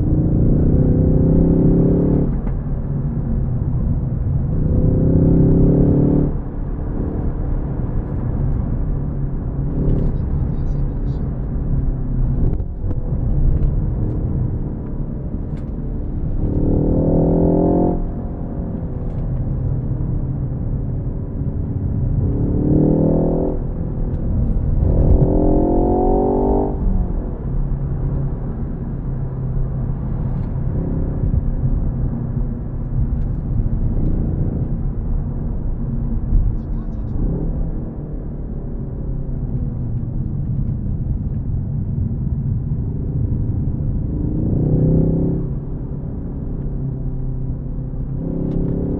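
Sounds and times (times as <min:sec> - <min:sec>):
car engine accelerating: 0:00.0 - 0:48.9
tyre and road noise: 0:00.0 - 0:48.9.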